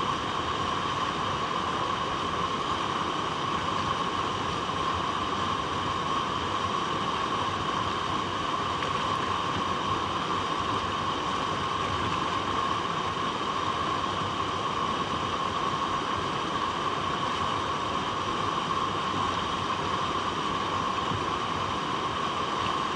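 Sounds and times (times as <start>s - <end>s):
water flowing over rocks: 0.2s - 22.9s.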